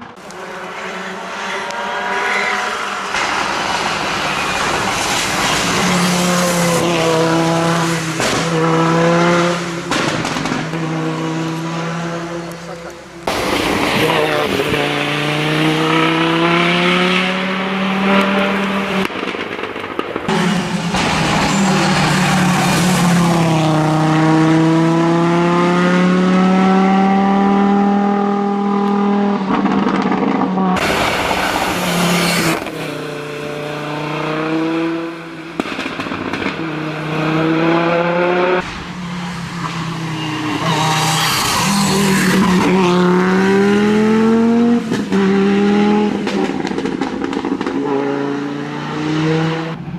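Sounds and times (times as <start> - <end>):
rally car engine revving: 0.0 - 19.6, 20.2 - 49.9.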